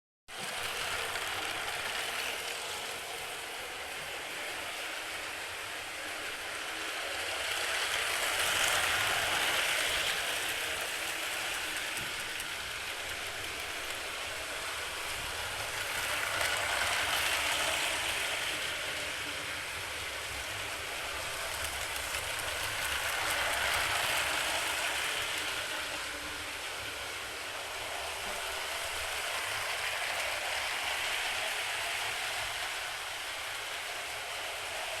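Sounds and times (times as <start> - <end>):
toy trains rattling on track: 0.3 - 35.0.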